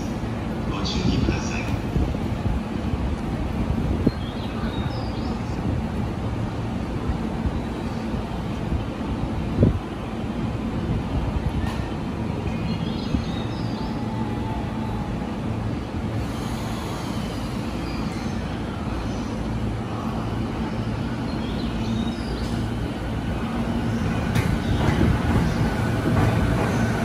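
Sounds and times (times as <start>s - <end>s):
electric train pulling in slowly: 0.0s - 27.0s.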